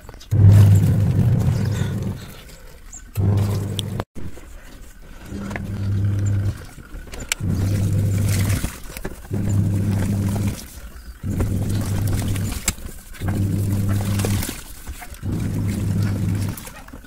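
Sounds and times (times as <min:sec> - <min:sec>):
water and clothes churning: 0:00.0 - 0:17.0
washing machine motor humming: 0:00.3 - 0:02.4, 0:03.1 - 0:17.0.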